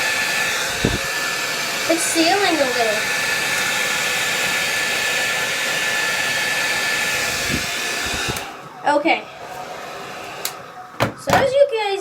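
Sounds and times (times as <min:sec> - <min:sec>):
hair dryer running: 0:00.0 - 0:11.8.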